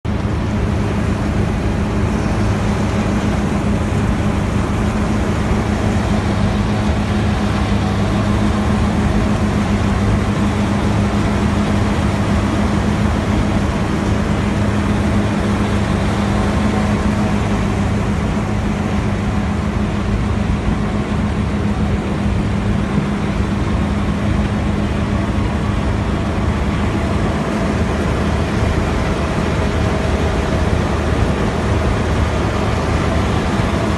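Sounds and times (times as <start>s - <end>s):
threshing machine running: 0.1s - 33.9s.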